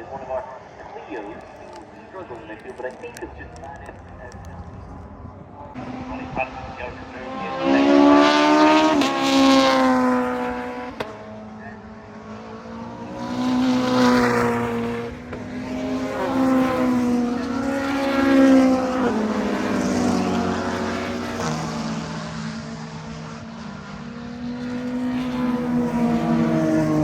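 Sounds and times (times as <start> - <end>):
race cars passing at speed: 0.0 - 27.0.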